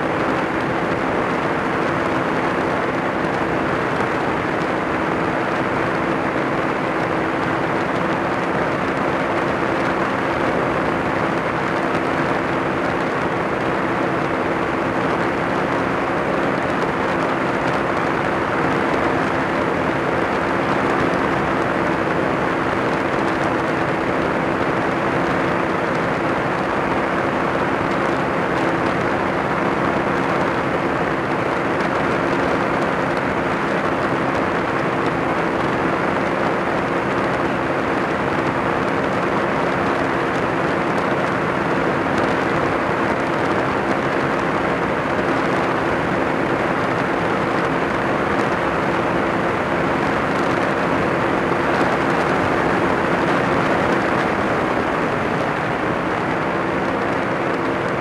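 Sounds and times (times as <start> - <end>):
aircraft engine droning: 0.0 - 58.0
wind rushing over camera: 0.0 - 58.0.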